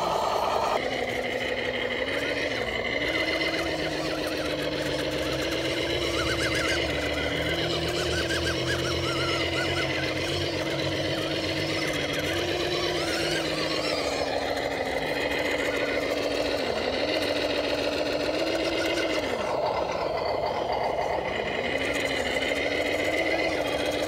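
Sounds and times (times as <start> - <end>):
toy car motor whining: 0.0 - 24.0.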